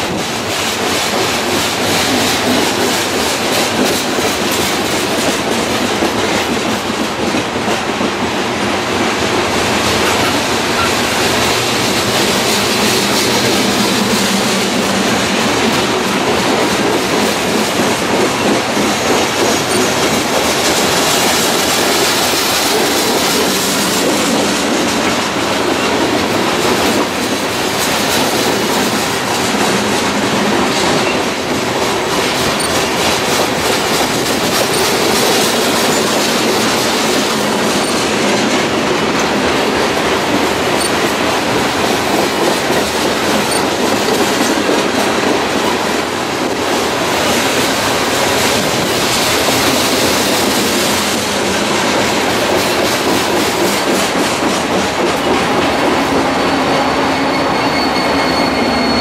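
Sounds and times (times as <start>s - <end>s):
diesel locomotive hum and whine: 0.0s - 59.0s
train wheels on rails: 0.0s - 59.0s.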